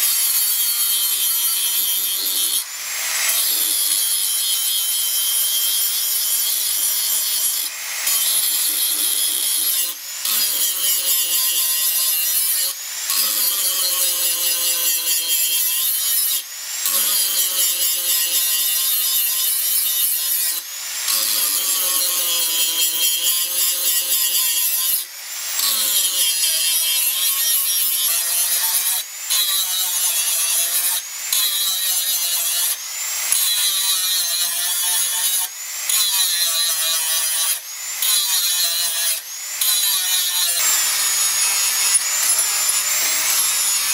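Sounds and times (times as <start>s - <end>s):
angle grinder grinding steel: 0.0s - 43.9s.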